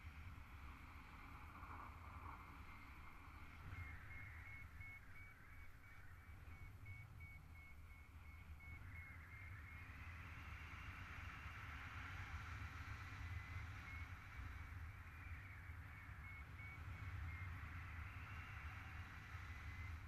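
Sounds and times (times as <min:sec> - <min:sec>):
faint high-pitched beeping: 0:02.5 - 0:20.0.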